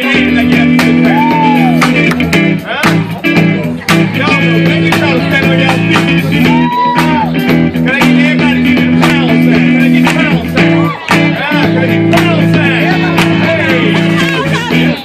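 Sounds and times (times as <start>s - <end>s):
drum hits: 0.0s - 15.0s
guitar lines: 0.0s - 15.0s
loud band music: 0.0s - 15.0s
low bass notes: 0.0s - 15.0s.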